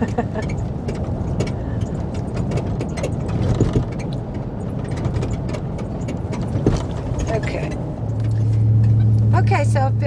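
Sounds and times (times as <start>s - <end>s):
light clicks and rattles: 0.0s - 9.3s
truck road noise rumble: 0.0s - 10.0s.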